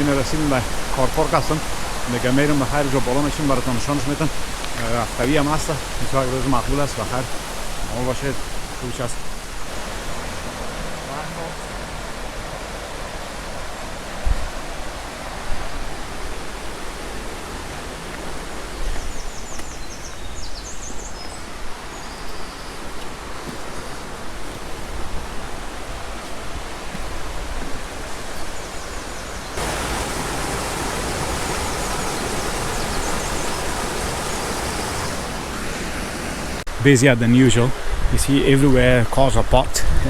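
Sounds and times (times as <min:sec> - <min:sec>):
stream rushing: 0:00.0 - 0:40.0.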